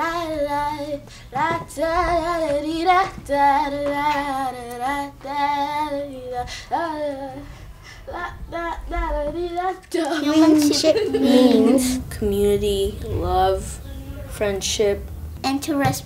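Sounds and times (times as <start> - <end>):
girl singing: 0.0 - 14.4.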